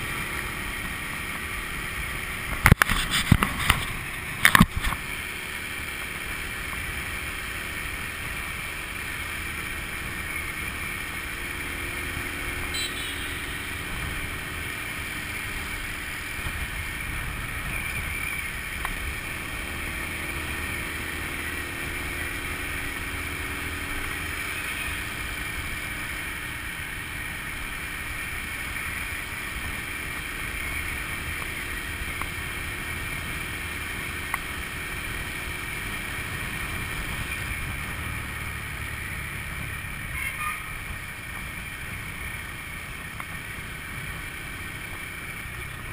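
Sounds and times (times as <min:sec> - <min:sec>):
scooter engine hum: 0:00.0 - 0:45.9
wind and road noise: 0:00.0 - 0:45.9.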